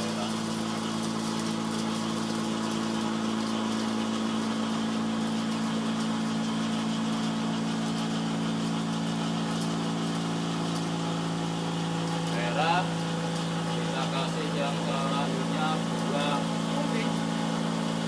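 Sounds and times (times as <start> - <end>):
cotton candy machine humming: 0.0 - 18.0.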